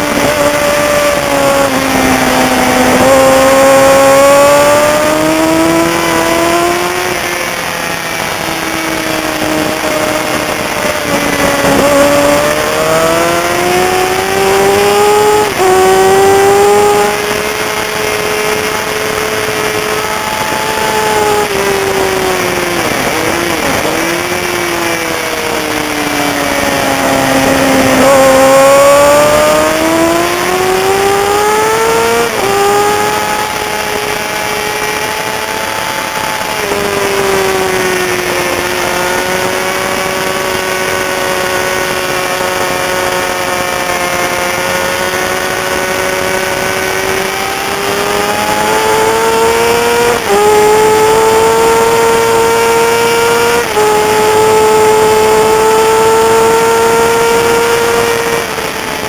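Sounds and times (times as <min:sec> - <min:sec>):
sportbike engine revving: 0:00.0 - 0:59.0.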